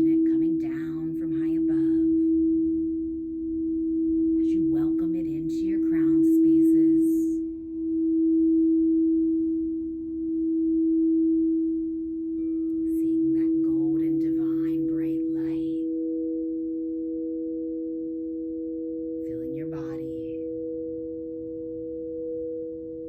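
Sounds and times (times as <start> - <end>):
higher singing bowl tone: 0.0 - 23.0
singing bowl tone: 0.0 - 23.0.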